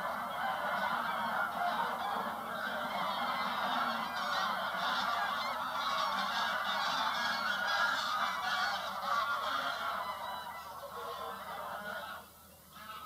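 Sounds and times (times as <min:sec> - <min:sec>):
flock of geese honking: 0:00.0 - 0:13.0.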